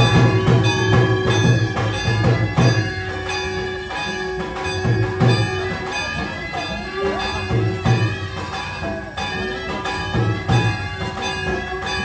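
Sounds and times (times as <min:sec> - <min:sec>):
bells ringing: 0:00.0 - 0:12.0
drum beats: 0:00.0 - 0:12.0.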